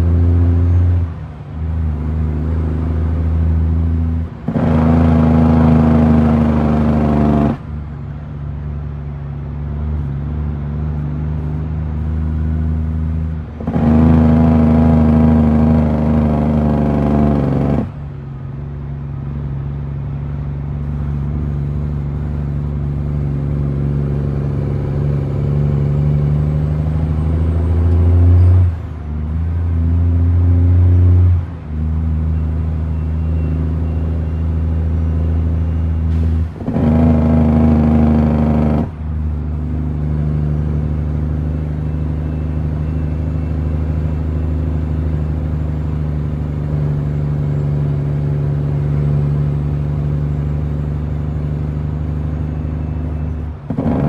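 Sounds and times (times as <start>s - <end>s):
truck diesel engine under load: 0.0s - 54.0s.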